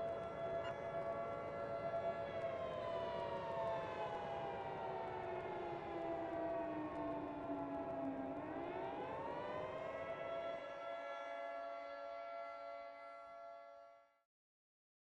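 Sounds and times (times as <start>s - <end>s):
civil defense siren wailing: 0.0s - 14.2s.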